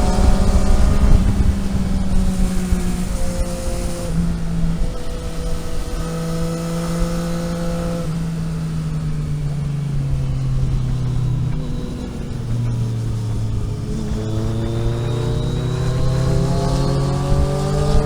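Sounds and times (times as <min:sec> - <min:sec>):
road noise: 0:00.0 - 0:18.0
vehicle engine revving: 0:00.0 - 0:18.0.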